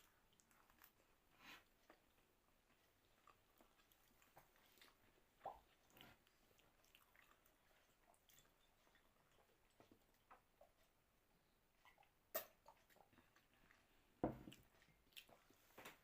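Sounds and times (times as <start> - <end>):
faint chewing of food: 0.0 - 16.0.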